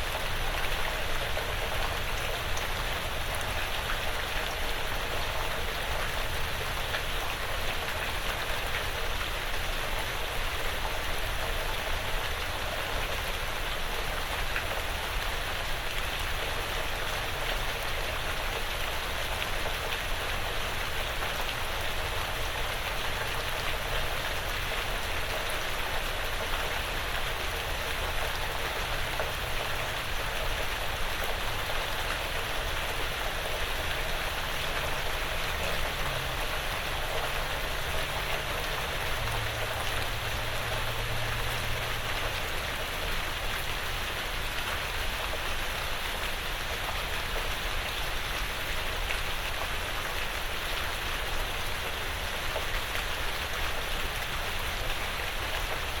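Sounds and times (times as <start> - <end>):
rain on a roof and woods: 0.0 - 56.0.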